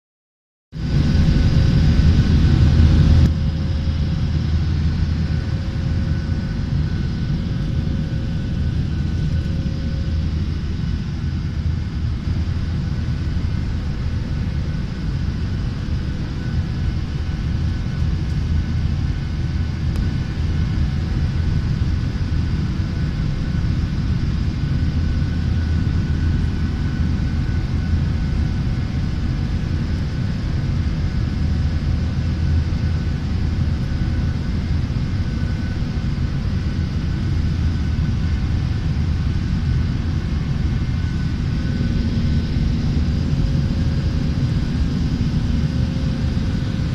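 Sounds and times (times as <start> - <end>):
jet airliner cabin rumble: 0.8 - 46.9.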